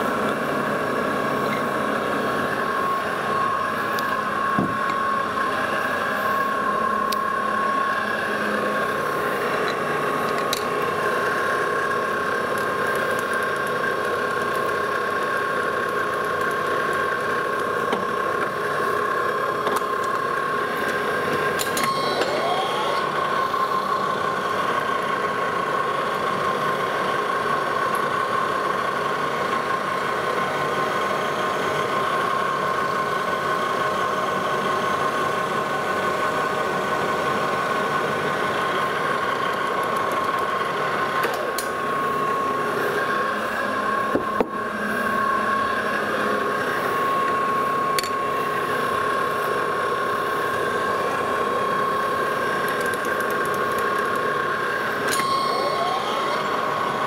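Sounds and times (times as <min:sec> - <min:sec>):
lathe gearing whine: 0:00.0 - 0:57.0.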